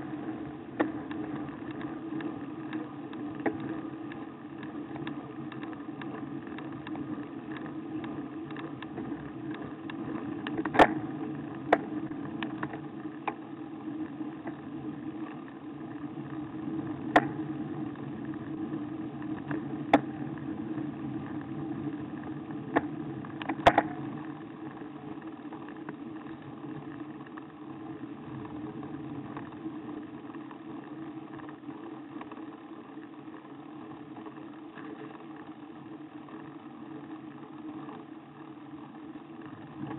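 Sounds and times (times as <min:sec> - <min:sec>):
bicycle tyre hum and rumble: 0:00.0 - 0:39.9.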